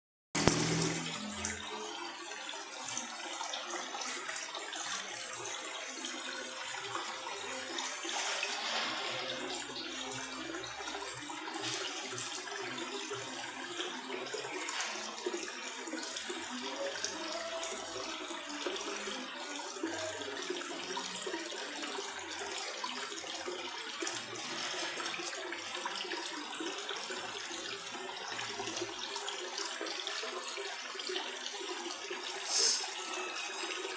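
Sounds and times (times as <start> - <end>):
aquarium water trickling: 0.4 - 33.9.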